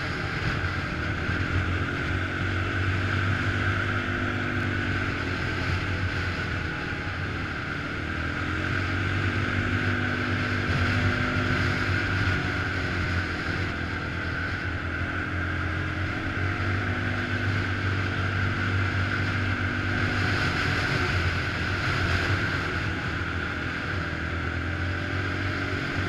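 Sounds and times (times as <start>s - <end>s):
atv engine running: 0.0s - 26.0s
high whine: 0.0s - 26.0s.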